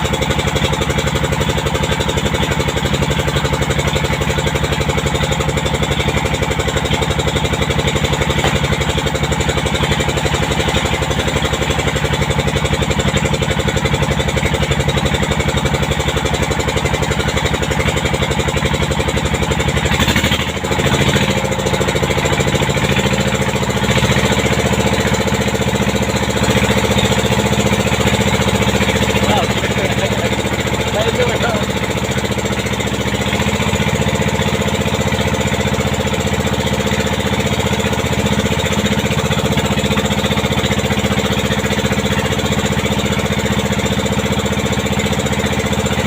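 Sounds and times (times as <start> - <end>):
motorboat engine running: 0.0 - 46.0.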